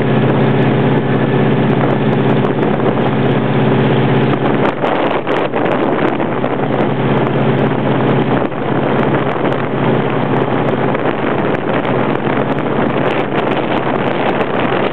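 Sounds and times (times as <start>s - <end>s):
boat engine running: 0.0s - 14.9s
wind buffeting microphone: 0.0s - 14.9s.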